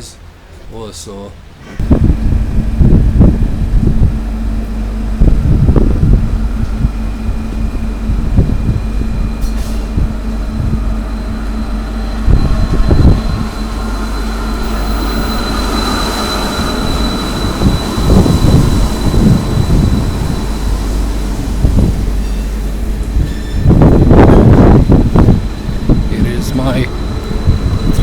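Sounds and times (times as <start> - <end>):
train low rumble: 0.0 - 28.0
train knocks: 1.5 - 28.0
thin high whine: 5.2 - 28.0.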